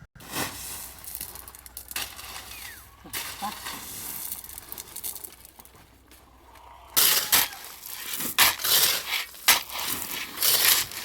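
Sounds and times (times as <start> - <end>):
concrete scraping and crunching: 0.2 - 11.0.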